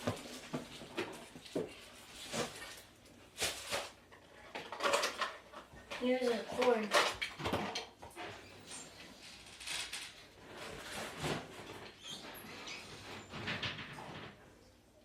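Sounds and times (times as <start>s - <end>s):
rustling and knocks of parts: 0.0s - 14.6s.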